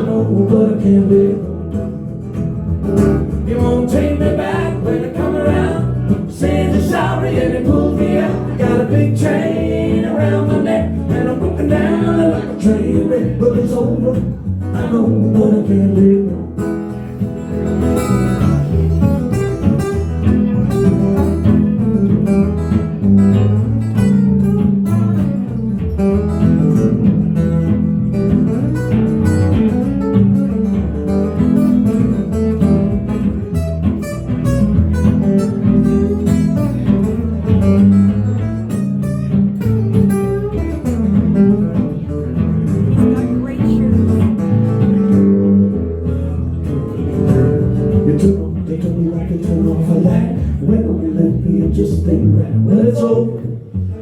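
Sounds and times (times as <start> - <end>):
band playing guitar-led instrumental: 0.0 - 52.0.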